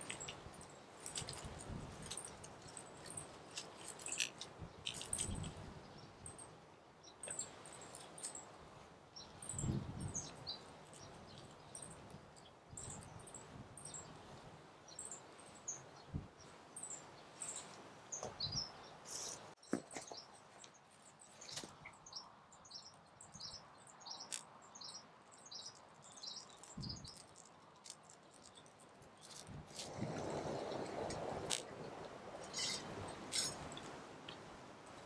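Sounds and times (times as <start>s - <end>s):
small birds chirping: 0.0s - 8.5s, 9.1s - 14.2s, 14.8s - 30.9s, 32.4s - 33.9s.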